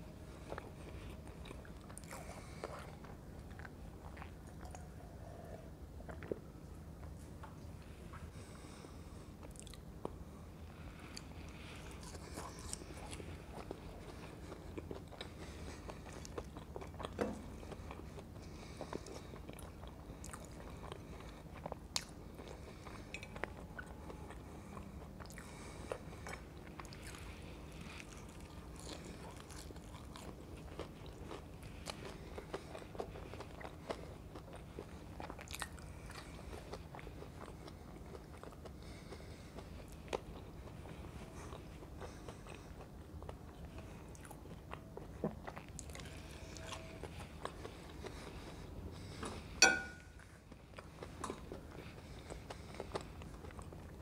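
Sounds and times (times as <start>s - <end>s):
crunching and chewing fries: 0.0s - 54.0s.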